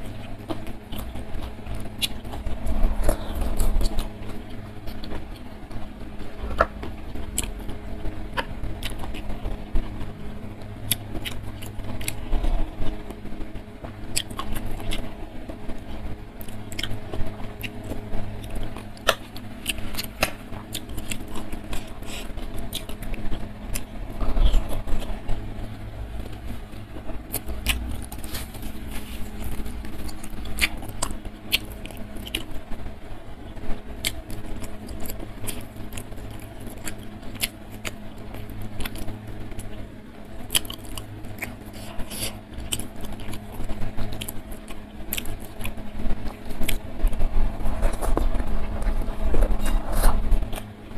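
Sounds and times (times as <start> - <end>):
person chewing food: 0.0 - 32.7, 33.7 - 50.8
steady low hum: 0.0 - 50.9.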